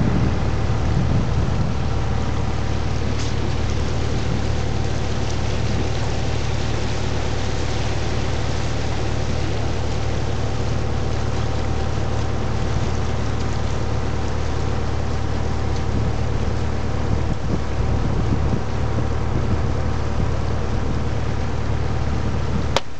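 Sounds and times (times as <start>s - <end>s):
boat engine droning: 0.0s - 22.9s
wind and water rushing: 0.0s - 22.9s.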